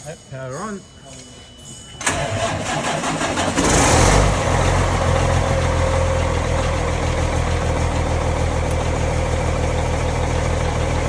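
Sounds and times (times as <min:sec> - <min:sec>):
truck diesel engine idling: 0:02.0 - 0:11.0.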